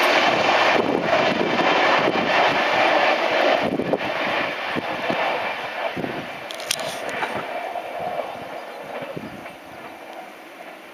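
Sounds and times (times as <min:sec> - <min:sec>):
train wheels on rails: 0:00.0 - 0:10.9.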